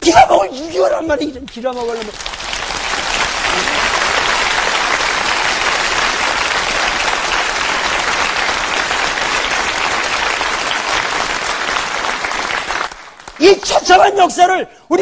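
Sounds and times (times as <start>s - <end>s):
audience applauding: 1.4s - 14.1s.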